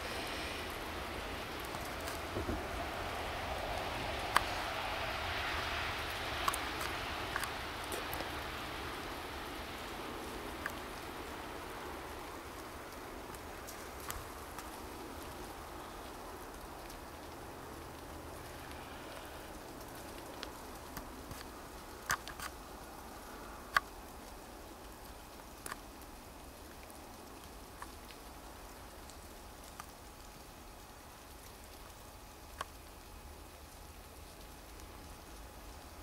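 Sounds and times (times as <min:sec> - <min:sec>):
wet snow pattering and dripping: 0:00.0 - 0:36.0.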